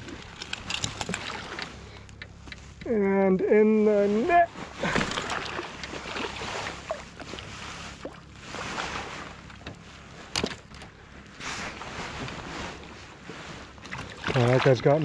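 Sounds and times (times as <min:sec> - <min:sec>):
water splashing and lapping: 0:00.0 - 0:02.8, 0:04.0 - 0:15.0.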